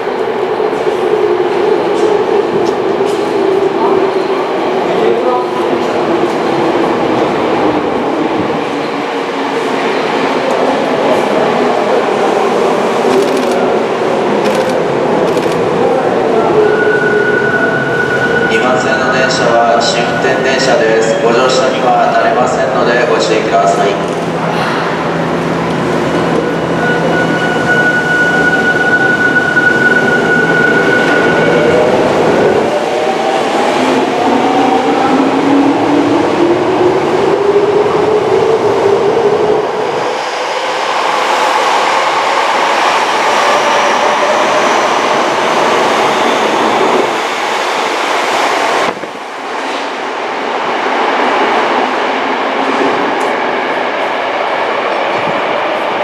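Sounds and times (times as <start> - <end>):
subway train motors whining: 0.0 - 56.0.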